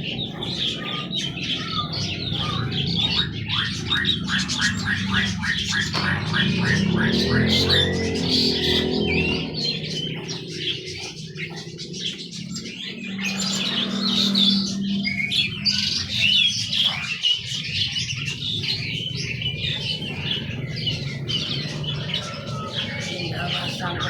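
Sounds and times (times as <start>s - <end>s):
caged songbirds chirping: 0.0s - 24.0s.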